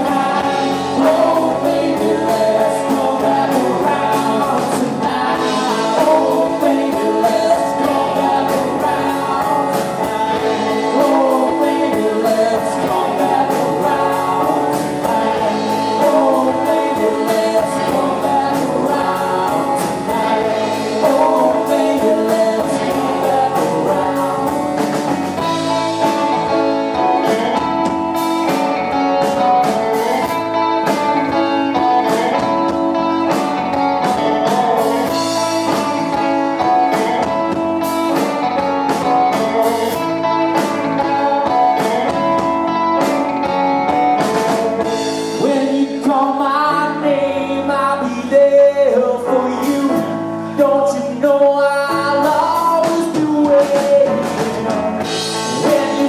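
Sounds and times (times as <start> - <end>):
male lead vocal: 0.0 - 43.1, 44.0 - 56.0
live rock band playing: 0.0 - 56.0.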